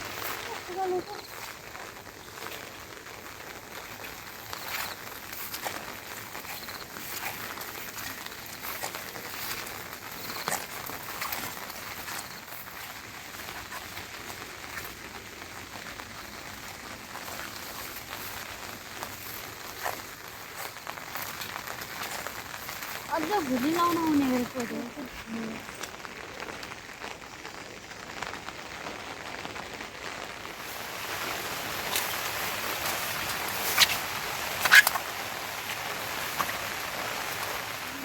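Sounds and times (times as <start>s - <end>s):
steady rain: 0.0s - 38.0s
water dripping: 0.0s - 38.0s.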